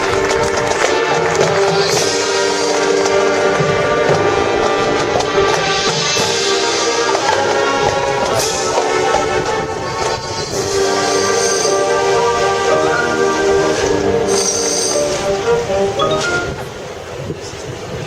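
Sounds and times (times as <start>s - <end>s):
marching band brass chords: 0.0s - 16.8s
percussion: 0.0s - 16.8s.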